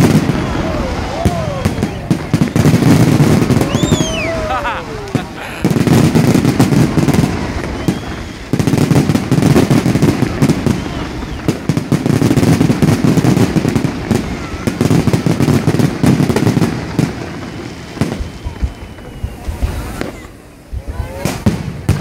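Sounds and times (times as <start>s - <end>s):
fireworks bursts and bangs: 0.0s - 22.0s.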